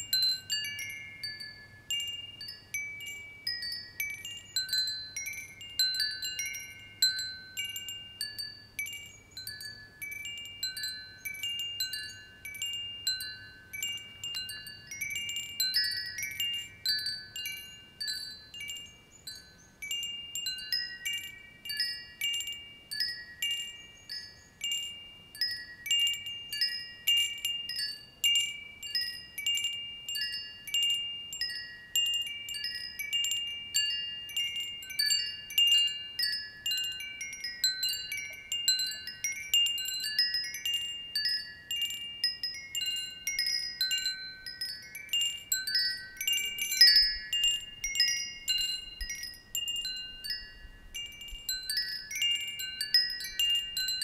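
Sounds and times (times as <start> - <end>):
metal wind chimes ringing: 0.0 - 54.0.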